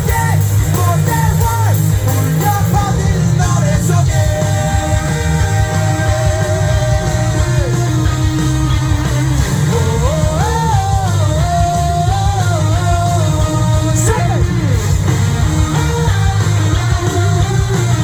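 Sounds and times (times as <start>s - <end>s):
bass and drums: 0.0s - 18.0s.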